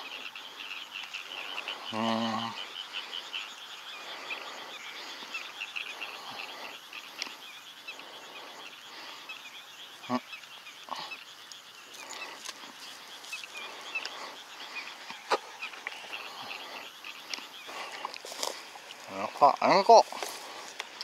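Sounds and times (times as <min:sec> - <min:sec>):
chorus of high chirping calls: 0:00.0 - 0:21.0.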